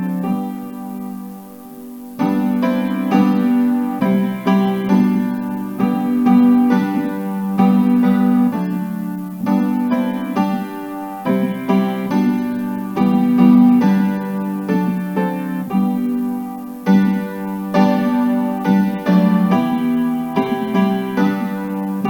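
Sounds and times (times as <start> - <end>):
piano playing hymn chords: 0.0 - 22.0.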